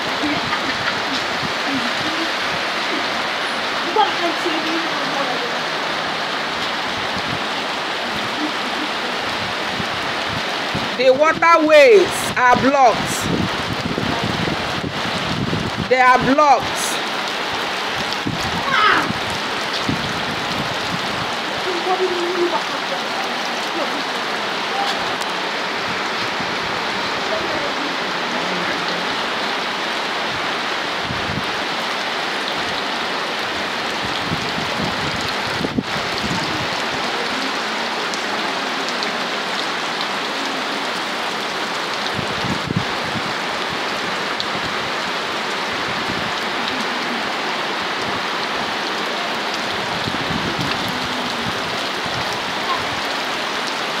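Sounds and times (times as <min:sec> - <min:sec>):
heavy rain on standing water: 0:00.0 - 0:54.0.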